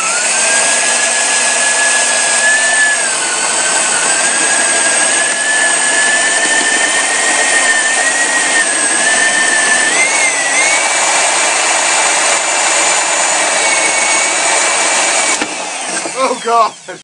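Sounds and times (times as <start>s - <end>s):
electric drill boring wood: 0.0s - 17.0s.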